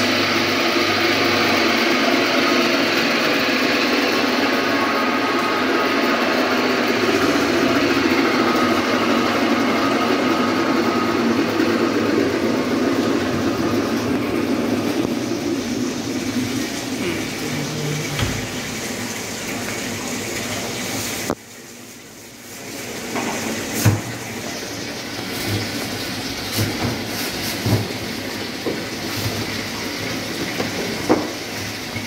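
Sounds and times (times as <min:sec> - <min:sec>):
machine running noise: 0:00.0 - 0:32.0.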